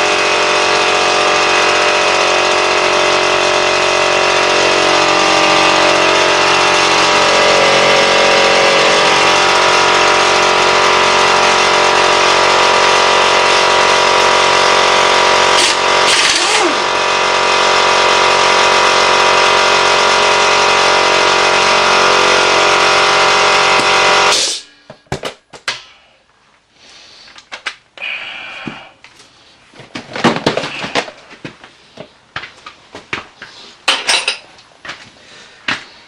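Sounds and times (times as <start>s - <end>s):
air compressor motor running: 0.0s - 25.0s, 28.0s - 29.8s, 30.4s - 36.0s.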